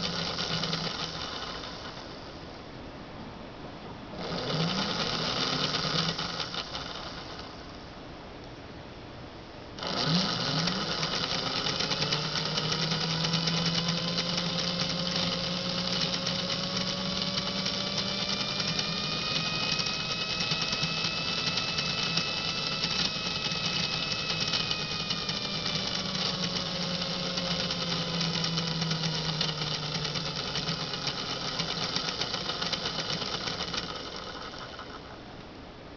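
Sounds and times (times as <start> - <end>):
electric motor whirring and whining: 0.0 - 2.2, 4.2 - 7.6, 9.8 - 35.2
low steady hum: 0.0 - 35.9.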